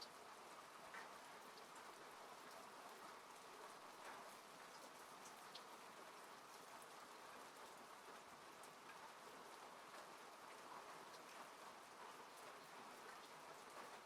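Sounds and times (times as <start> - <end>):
rain falling on a car: 0.0 - 14.0.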